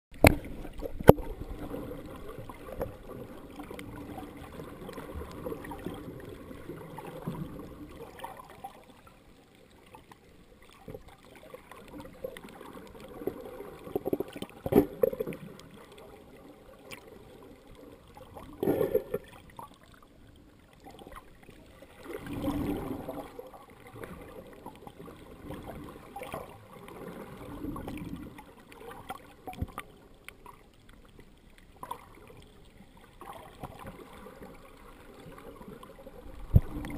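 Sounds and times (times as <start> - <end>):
muffled underwater sloshing: 0.1 - 36.9.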